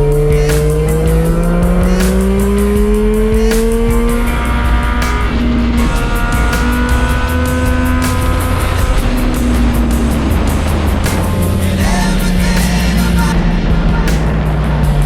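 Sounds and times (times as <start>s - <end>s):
background music with steady beat: 0.0s - 15.0s
motorcycle engine accelerating: 0.0s - 15.0s.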